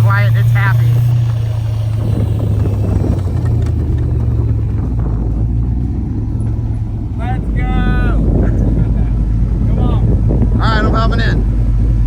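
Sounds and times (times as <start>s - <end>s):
snowcat engine drone: 0.0s - 12.0s.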